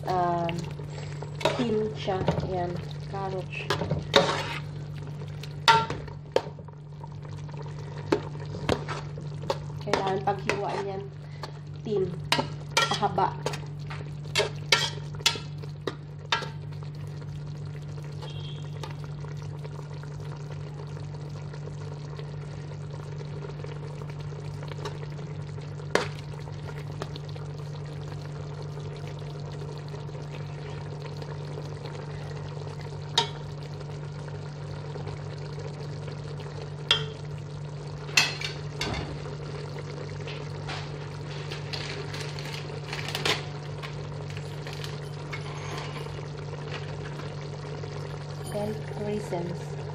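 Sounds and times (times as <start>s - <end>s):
low steady hum: 0.0s - 49.9s
sauce sizzling and simmering: 0.0s - 49.9s.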